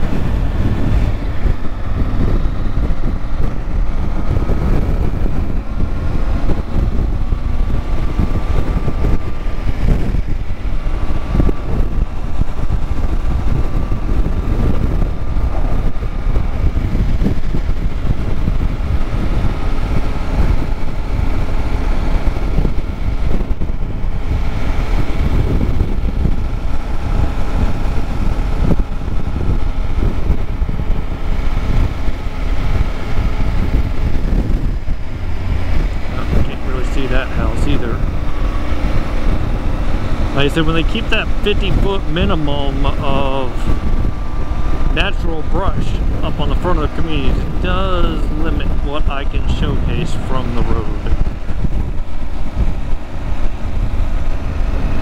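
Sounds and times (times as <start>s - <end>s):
motorcycle engine running: 0.0s - 55.0s
wind rush on microphone: 0.0s - 55.0s.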